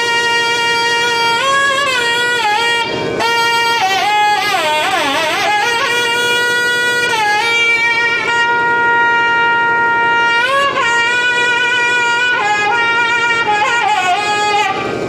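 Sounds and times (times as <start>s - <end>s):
double-reed pipes playing: 0.0s - 15.0s.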